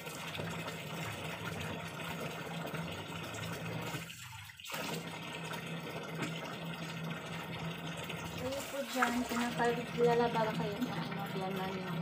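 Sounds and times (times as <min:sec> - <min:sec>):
water pouring into plastic drum: 0:00.0 - 0:12.0.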